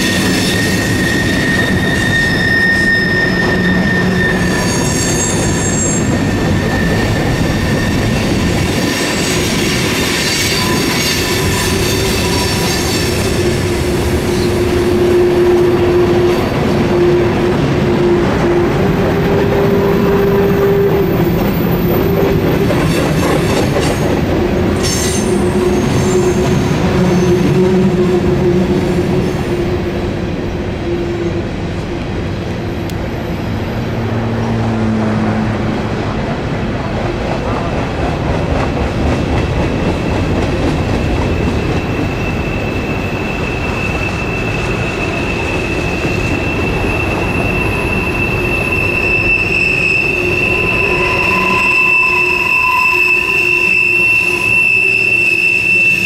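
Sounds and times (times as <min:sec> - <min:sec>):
high wheel squeal: 0:00.0 - 0:30.1, 0:39.9 - 0:56.0
train wheels rumbling on rails: 0:00.0 - 0:56.0.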